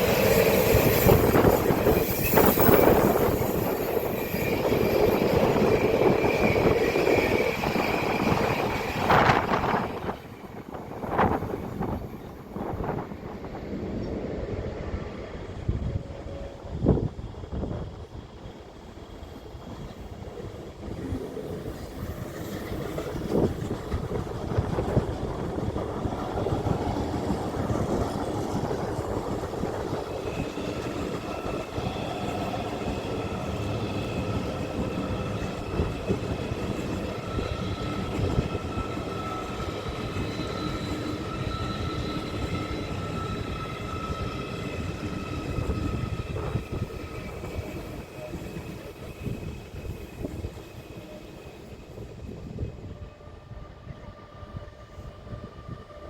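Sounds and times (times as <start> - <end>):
train rolling noise: 0.0 - 56.0.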